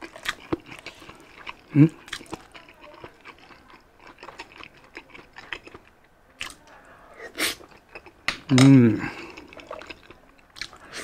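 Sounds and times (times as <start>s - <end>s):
wet mouth eating sounds: 0.0s - 11.0s.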